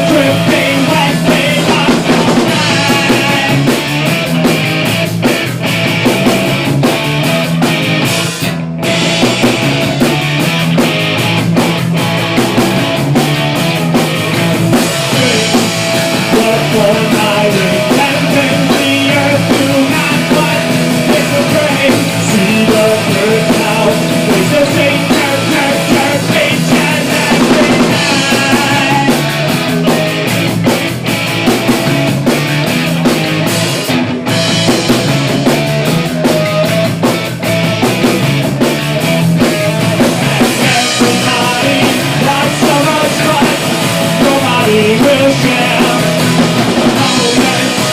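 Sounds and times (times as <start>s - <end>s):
punk rock band playing live: 0.0s - 47.9s.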